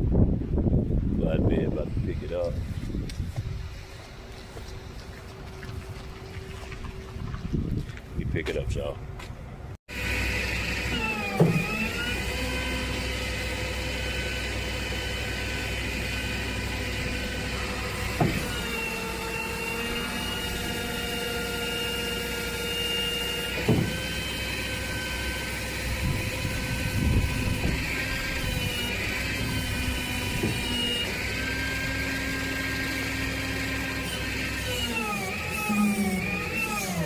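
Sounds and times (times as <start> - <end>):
hydraulics whining: 0.0 - 37.0
truck engine running: 2.4 - 35.6.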